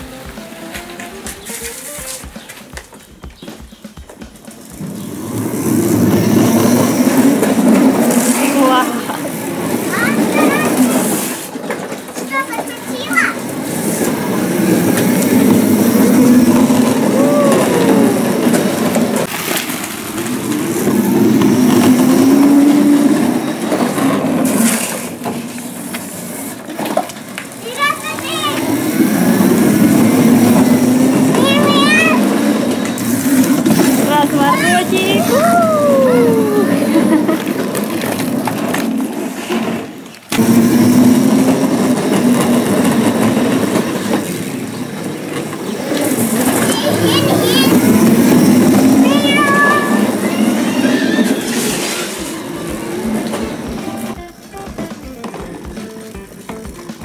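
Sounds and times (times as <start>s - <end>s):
toy wheels rumbling on rough ground: 0.0s - 57.0s.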